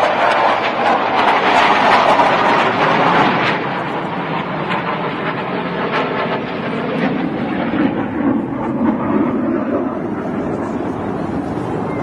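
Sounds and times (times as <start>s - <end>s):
jet roar flying past: 0.0s - 12.0s.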